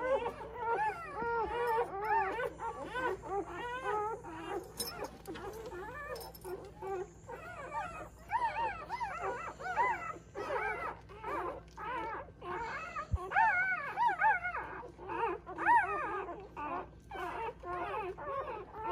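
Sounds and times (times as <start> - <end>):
puppies squeaking and crying: 0.0 - 18.9.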